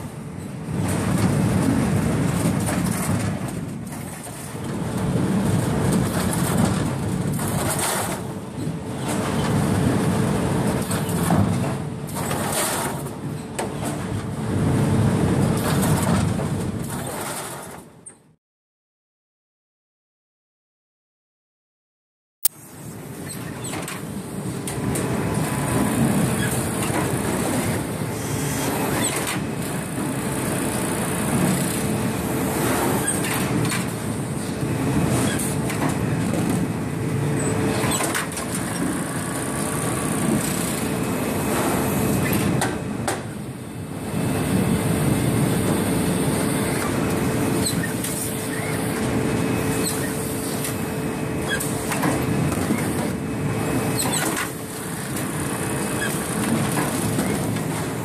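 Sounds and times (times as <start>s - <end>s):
bagging machine running: 0.0s - 17.9s, 22.8s - 58.0s.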